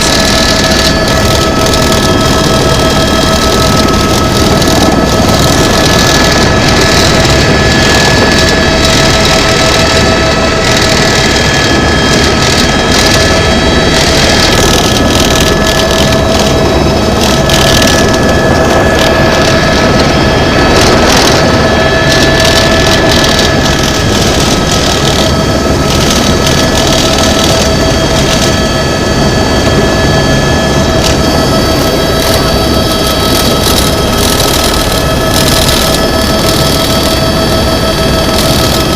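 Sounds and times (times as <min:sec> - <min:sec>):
helicopter turbine and rotor running: 0:00.0 - 0:38.9.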